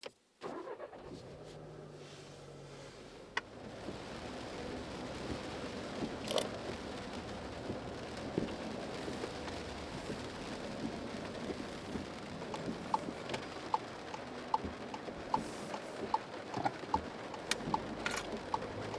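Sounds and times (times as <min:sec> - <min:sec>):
rain on a car roof: 0:00.4 - 0:18.9.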